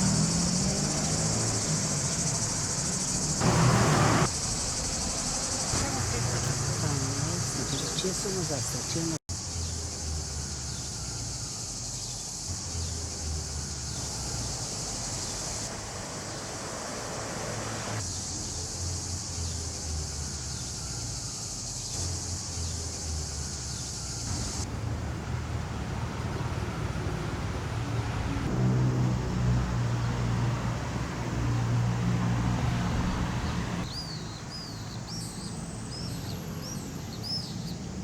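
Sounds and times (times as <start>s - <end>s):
cicadas buzzing: 0.0s - 38.0s
traffic engines humming: 0.0s - 38.0s.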